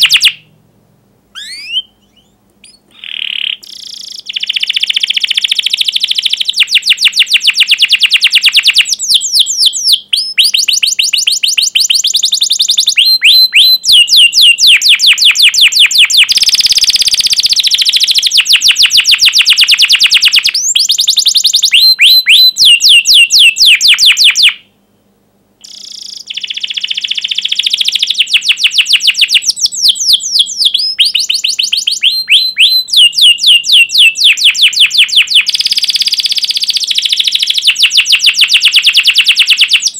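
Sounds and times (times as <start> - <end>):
canary singing trills: 0.0 - 0.6, 1.3 - 24.8, 25.6 - 39.9.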